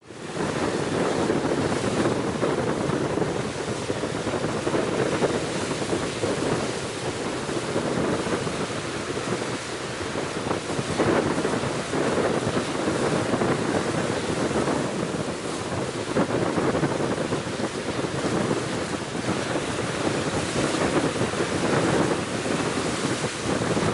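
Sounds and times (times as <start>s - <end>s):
sea surf rushing: 0.0s - 23.9s
wind buffeting microphone: 0.0s - 23.9s.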